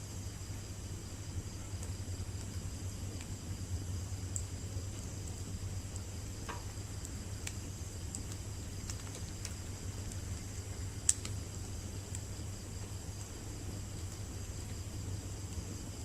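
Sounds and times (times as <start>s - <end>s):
night insects chirping: 0.0s - 16.0s
bonfire crackling and popping: 0.3s - 16.0s.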